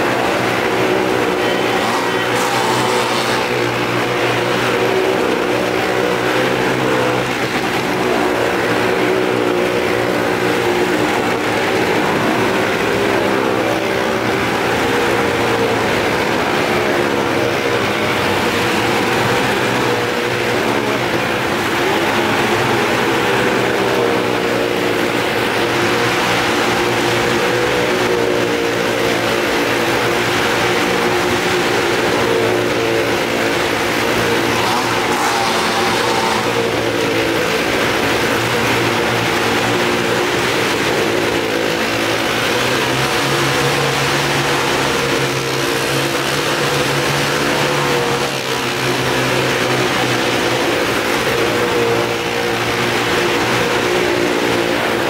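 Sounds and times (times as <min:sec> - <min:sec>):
loud car engines droning: 0:00.0 - 0:55.0.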